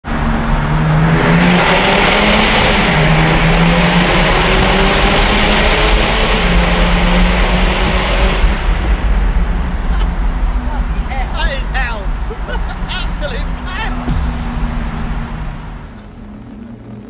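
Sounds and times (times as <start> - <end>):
car engine pulling hard: 0.0 - 17.0
exhaust and road noise: 0.0 - 17.0.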